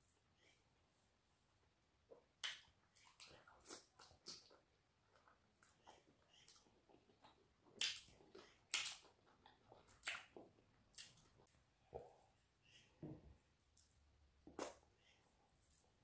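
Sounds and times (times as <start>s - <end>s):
soft chewing: 2.0s - 16.0s.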